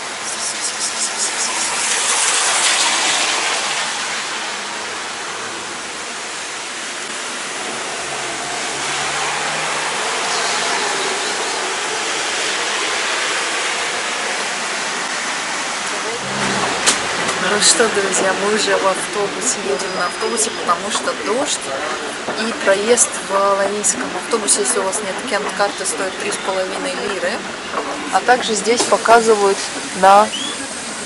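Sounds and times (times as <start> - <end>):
heavy rain on pavement: 0.0 - 31.0.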